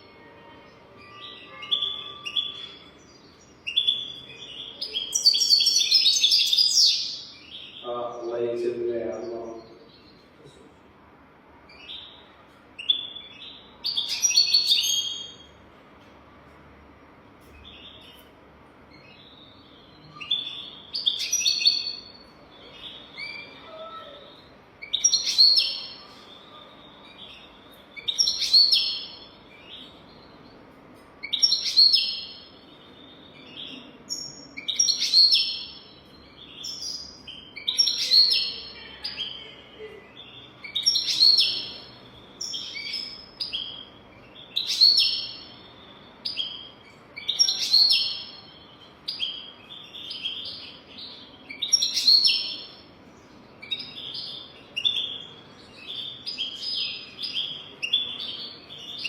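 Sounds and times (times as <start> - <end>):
finch twittering song: 0.0 - 10.3, 11.7 - 15.5, 17.4 - 39.5, 40.2 - 59.0.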